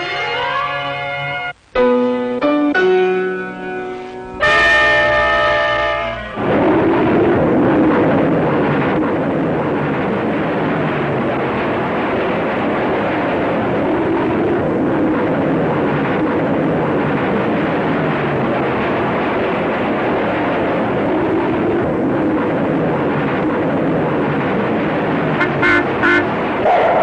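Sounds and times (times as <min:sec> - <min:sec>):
engine-like rushing noise: 0:03.9 - 0:27.0.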